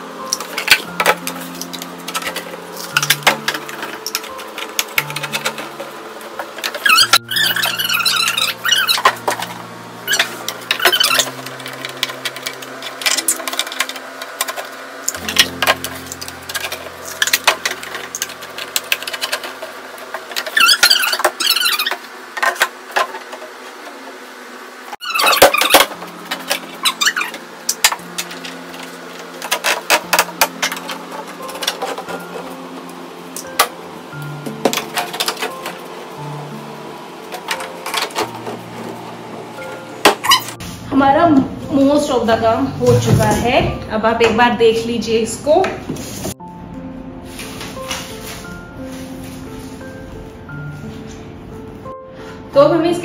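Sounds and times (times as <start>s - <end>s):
background music: 0.0s - 21.6s, 25.0s - 53.0s.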